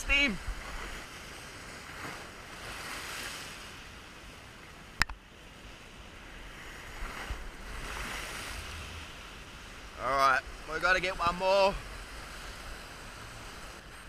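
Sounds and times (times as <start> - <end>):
surf surging around rocks: 0.0 - 14.0.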